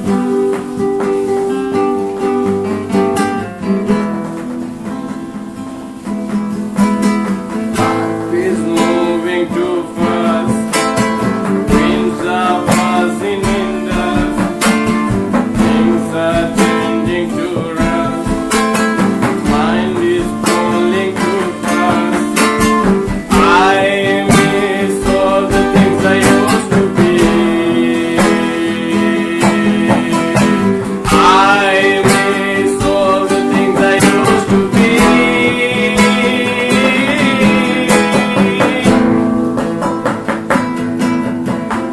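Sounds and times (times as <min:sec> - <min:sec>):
drum beat: 0:00.0 - 0:41.9
lead guitar melody with bends: 0:00.0 - 0:41.9
strummed guitar: 0:00.0 - 0:41.9.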